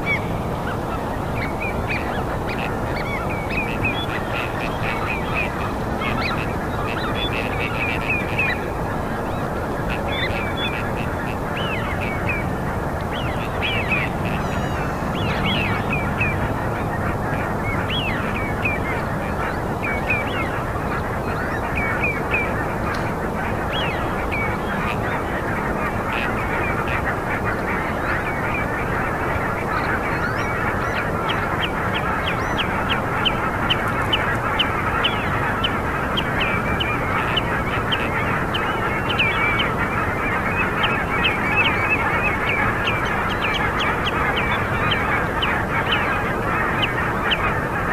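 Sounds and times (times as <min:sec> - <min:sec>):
birds chorus: 0:00.0 - 0:47.9.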